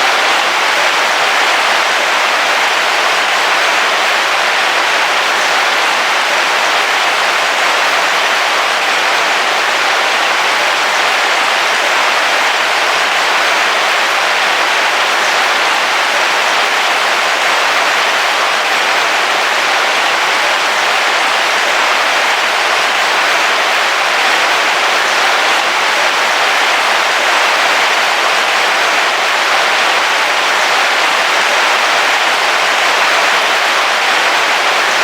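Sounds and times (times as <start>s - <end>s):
heavy rain on a roof: 0.0s - 35.0s.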